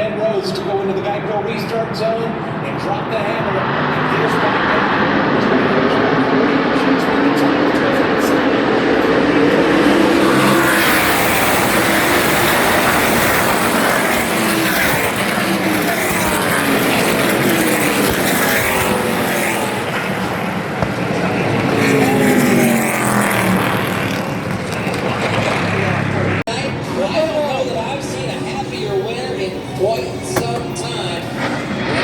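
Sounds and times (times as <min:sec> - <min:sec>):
race trucks racing past: 0:01.8 - 0:32.0.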